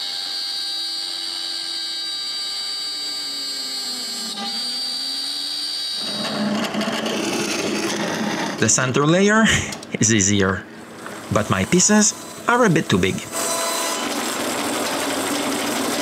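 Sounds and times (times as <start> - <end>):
drill press boring into wood: 0.0 - 8.6, 11.2 - 16.0
router spindle whine: 0.0 - 8.8, 11.1 - 16.0.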